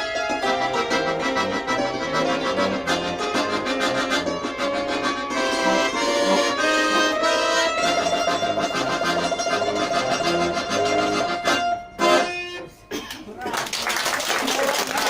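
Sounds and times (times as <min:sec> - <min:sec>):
accordion folk music: 0:00.0 - 0:12.9.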